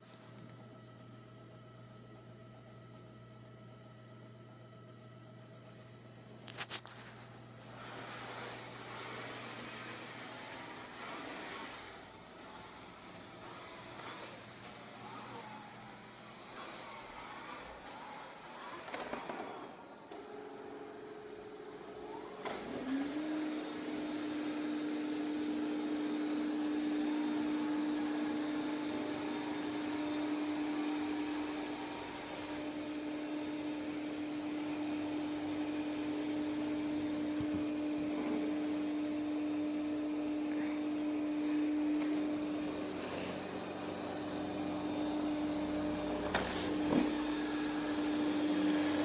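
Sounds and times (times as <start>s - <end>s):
robot vacuum motor humming: 7.6s - 20.3s, 21.4s - 49.0s.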